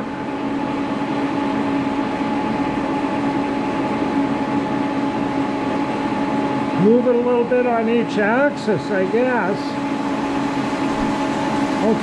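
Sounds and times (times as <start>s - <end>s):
milling machine humming: 0.0s - 12.0s.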